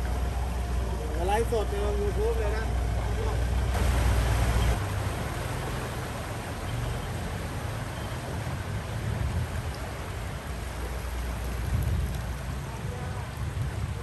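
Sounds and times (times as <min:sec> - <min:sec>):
heavy rain on standing water: 0:00.0 - 0:14.0
vehicle engine rumble: 0:00.0 - 0:14.0.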